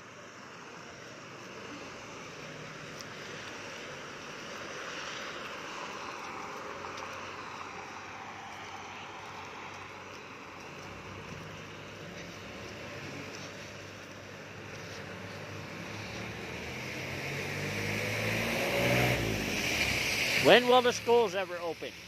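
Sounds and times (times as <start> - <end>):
tyres hissing on wet road: 0.0 - 22.0
vehicle engine hum: 0.0 - 22.0.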